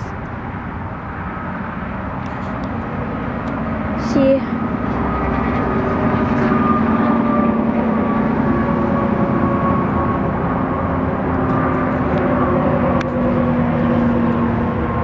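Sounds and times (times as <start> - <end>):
diesel locomotive drone: 0.0 - 15.0.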